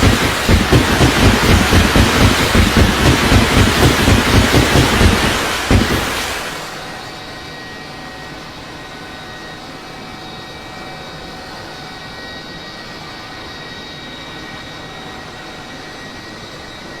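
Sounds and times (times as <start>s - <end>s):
aircraft engine hum: 0.0s - 17.0s.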